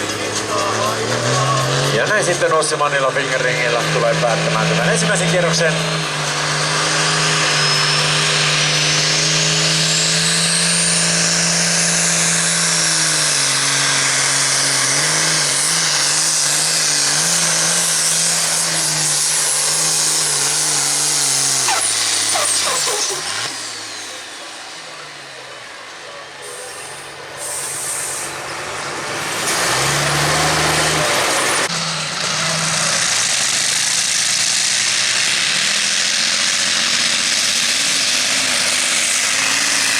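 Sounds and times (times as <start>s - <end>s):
tractor engines with high whine: 0.0s - 39.9s.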